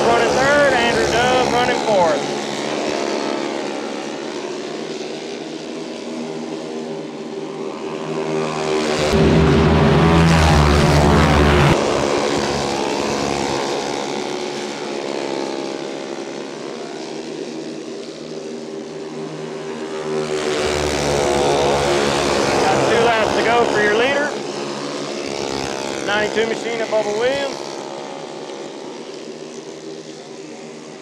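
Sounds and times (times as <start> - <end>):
go-kart engines passing: 0.0 - 31.0.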